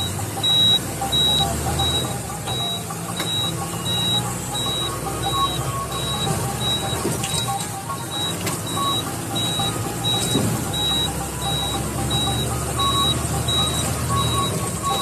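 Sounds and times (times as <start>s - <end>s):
high electronic beeps: 0.0s - 15.0s
truck engine droning: 0.0s - 15.0s.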